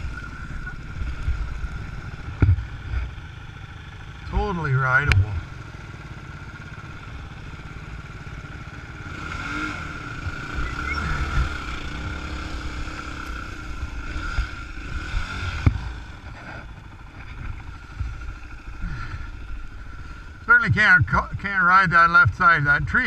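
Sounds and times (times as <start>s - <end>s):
dirt bike engine: 0.0s - 23.0s.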